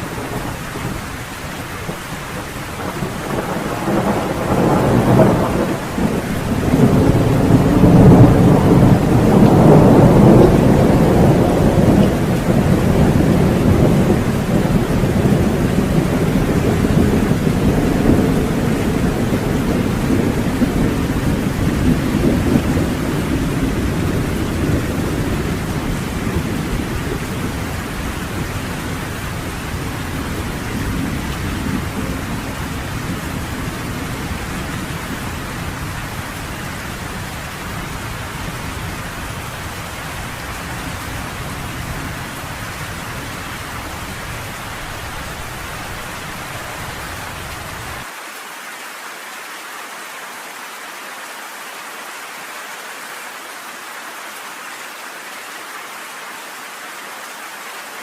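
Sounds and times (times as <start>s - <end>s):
rolling thunder: 0.0s - 48.0s
heavy rain hissing: 0.0s - 58.0s.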